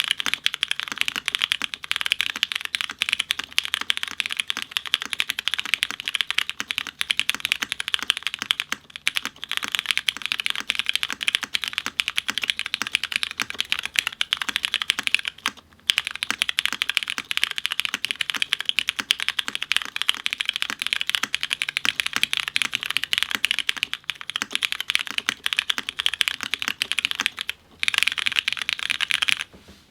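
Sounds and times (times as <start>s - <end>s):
typing on mechanical keyboard: 0.0s - 29.5s.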